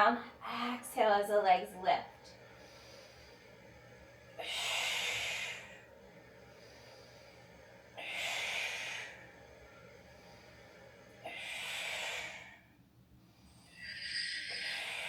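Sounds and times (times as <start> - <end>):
forceful breaths: 2.1 - 15.0.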